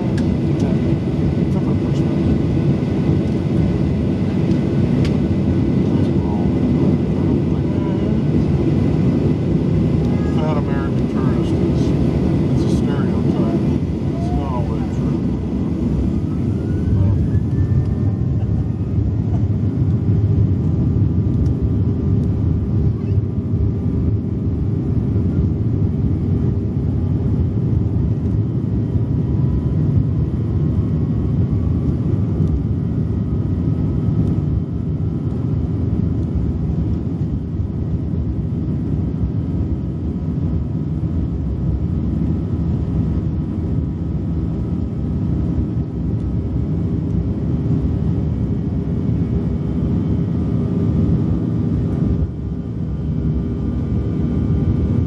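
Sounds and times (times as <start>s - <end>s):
faint whine: 0.0s - 55.0s
jet engine roar: 0.0s - 55.0s.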